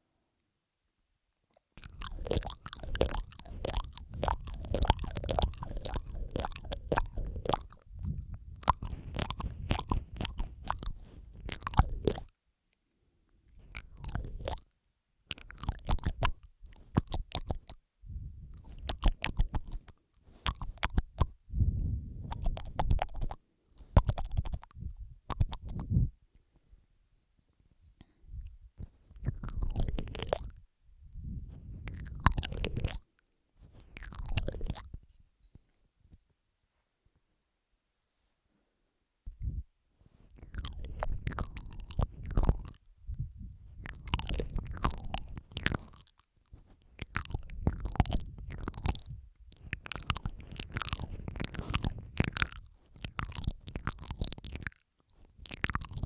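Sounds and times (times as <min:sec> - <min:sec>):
wet lip and tongue clicks: 0:01.5 - 0:12.4, 0:13.5 - 0:26.1, 0:28.0 - 0:35.7, 0:39.3 - 0:56.0.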